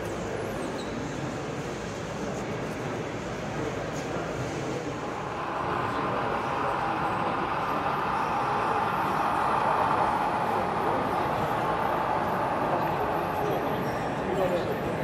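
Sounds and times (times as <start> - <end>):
model train rumbling whir: 1.2 - 15.0.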